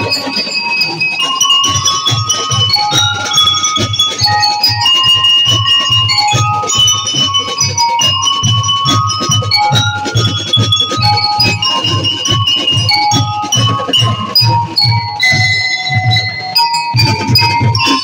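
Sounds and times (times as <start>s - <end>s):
bass and snare drums beating: 0.0s - 18.0s
lyre bars ringing melody: 0.0s - 18.0s.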